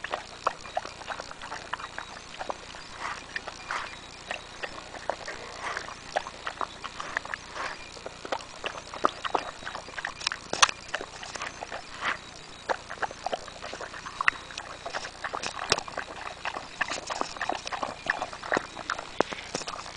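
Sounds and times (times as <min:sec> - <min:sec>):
dog chewing noisily: 0:00.0 - 0:19.9.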